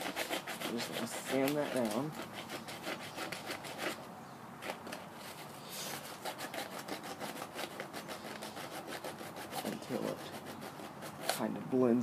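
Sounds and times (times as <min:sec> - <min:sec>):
sandpaper rasping on wood: 0:00.0 - 0:04.0, 0:04.6 - 0:11.6.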